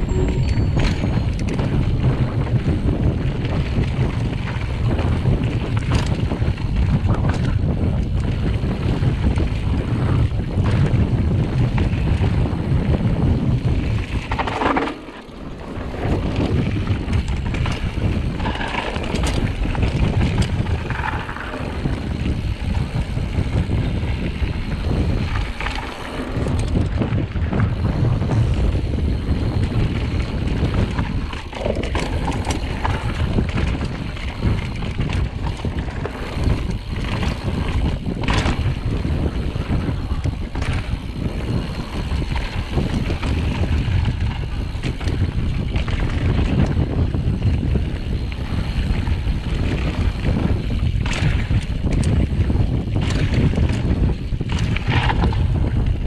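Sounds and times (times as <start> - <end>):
bike clicks and rattles: 0.0 - 56.0
tyres rumbling on gravel trail: 0.0 - 56.0
wind buffeting microphone: 0.0 - 56.0.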